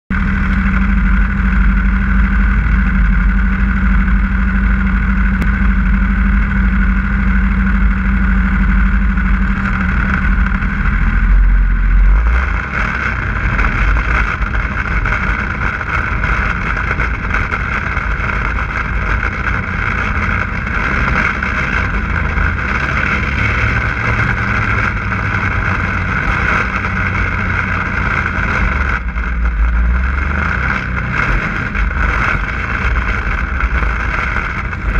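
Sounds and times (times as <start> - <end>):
snowmobile engine: 0.1 - 34.9.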